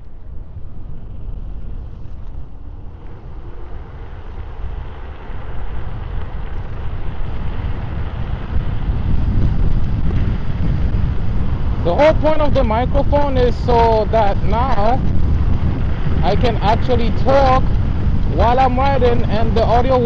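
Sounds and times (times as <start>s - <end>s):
road rumble: 0.0s - 20.0s
wind rushing over microphone: 0.0s - 20.0s.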